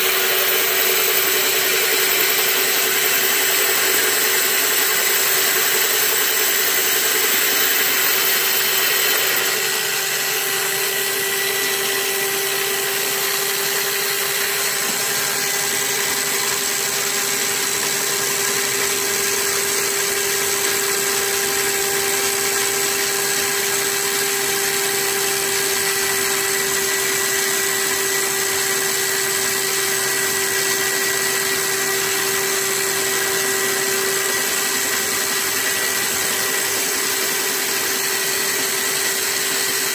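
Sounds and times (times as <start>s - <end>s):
boring machine motor whining: 0.0s - 39.9s.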